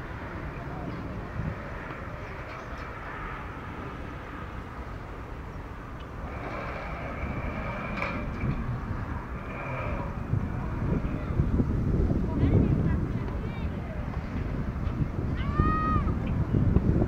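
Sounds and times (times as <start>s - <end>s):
jet engine whine: 0.0s - 16.6s
distant jet engines rushing: 0.0s - 17.0s.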